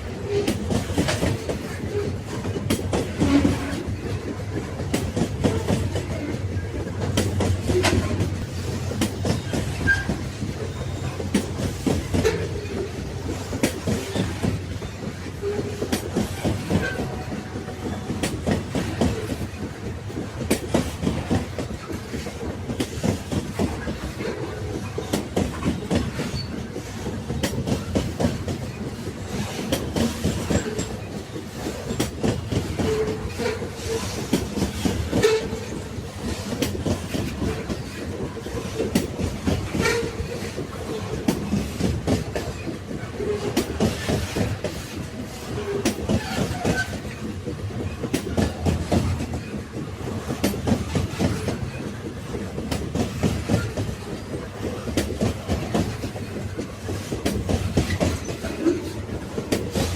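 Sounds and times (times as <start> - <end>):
railway carriages rumbling: 0.0 - 59.9
train wheels on rail joints: 0.0 - 59.9.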